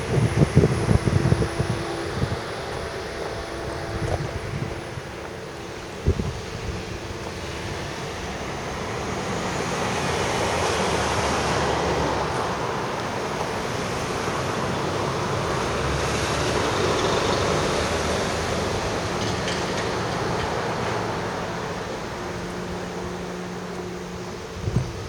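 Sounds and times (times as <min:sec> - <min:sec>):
train passing: 0:00.0 - 0:25.0.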